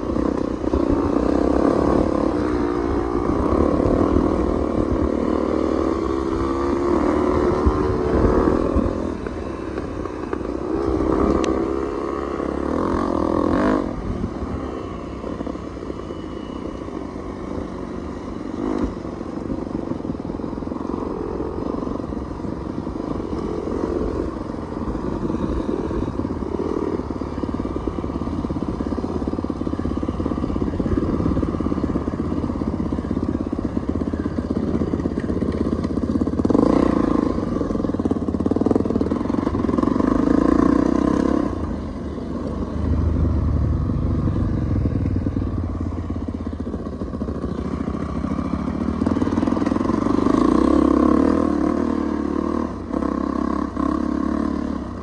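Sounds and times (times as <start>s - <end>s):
dirt bike engines running: 0.0s - 55.0s.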